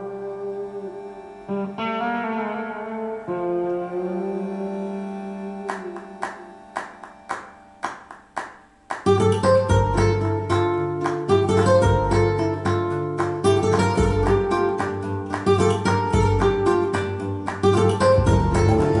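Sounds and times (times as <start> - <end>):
instrumental music through speakers: 0.0 - 19.0
sharp plucked notes: 0.0 - 19.0.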